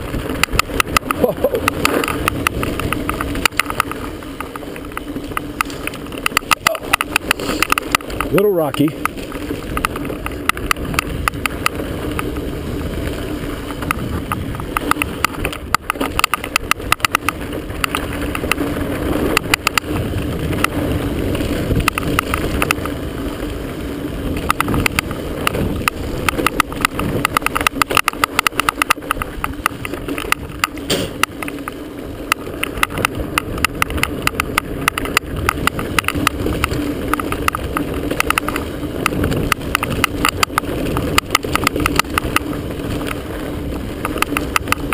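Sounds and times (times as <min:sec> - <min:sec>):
tyres on dirt: 0:00.0 - 0:44.9
camera rattling against mount: 0:00.2 - 0:12.5, 0:13.6 - 0:20.8, 0:21.5 - 0:23.0, 0:24.4 - 0:43.2.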